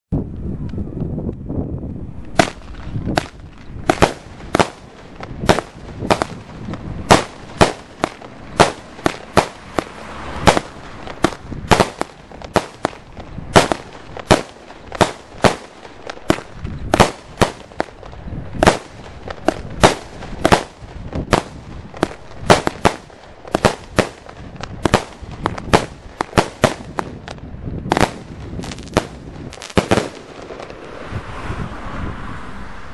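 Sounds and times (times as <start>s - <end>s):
fireworks cake firing sharp bangs: 2.4s - 30.8s.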